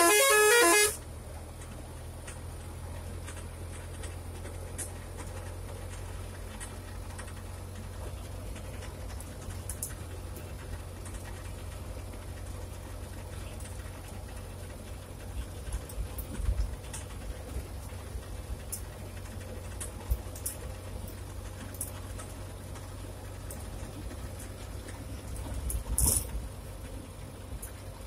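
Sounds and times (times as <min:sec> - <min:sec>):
road noise: 0:00.0 - 0:28.0
vehicle engine rumble: 0:00.0 - 0:28.0
small clicks and rattles: 0:01.5 - 0:28.0.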